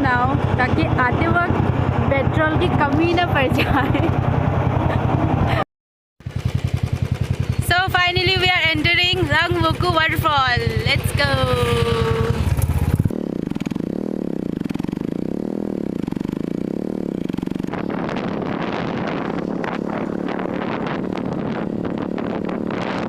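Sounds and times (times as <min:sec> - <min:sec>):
rattling and clatter on rough road: 0:00.0 - 0:05.6, 0:06.2 - 0:23.0
vehicle engine running: 0:00.0 - 0:05.6, 0:06.2 - 0:23.0.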